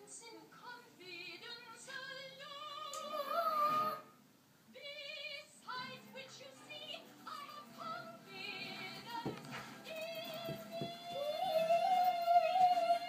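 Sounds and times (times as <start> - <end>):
woman singing with music: 0.0 - 13.0.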